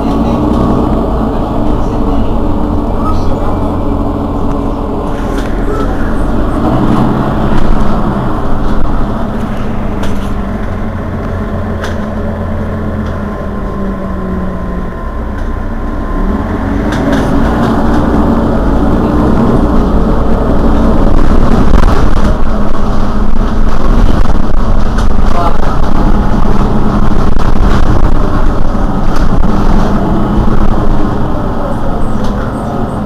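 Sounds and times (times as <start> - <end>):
bus diesel engine idling: 0.0 - 33.0.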